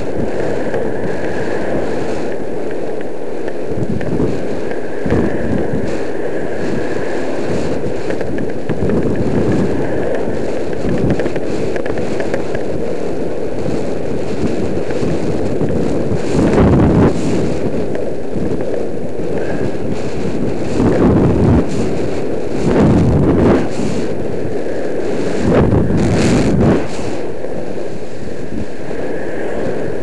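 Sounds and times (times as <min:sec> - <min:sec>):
bicycle tyres rumbling on tarmac: 0:00.0 - 0:30.0
wind buffeting microphone: 0:00.0 - 0:30.0.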